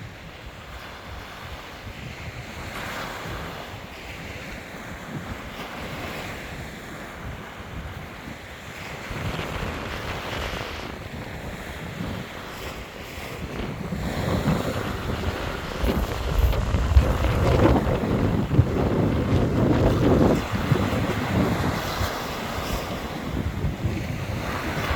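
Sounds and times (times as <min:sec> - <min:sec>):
sea waves breaking: 0:00.0 - 0:24.9
wind buffeting microphone: 0:00.0 - 0:24.9.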